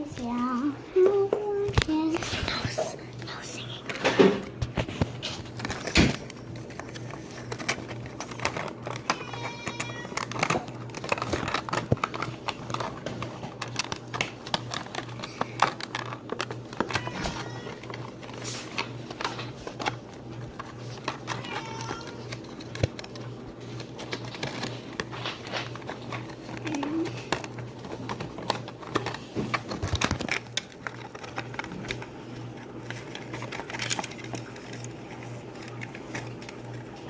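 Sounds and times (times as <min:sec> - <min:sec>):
plastic toys being handled: 0:00.0 - 0:37.0.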